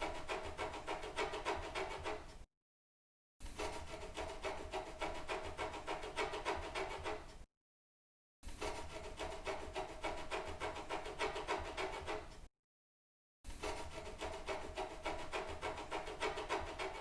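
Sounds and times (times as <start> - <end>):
quick scratching strokes: 0.0 - 2.4, 3.4 - 7.4, 8.5 - 12.5, 13.5 - 17.0.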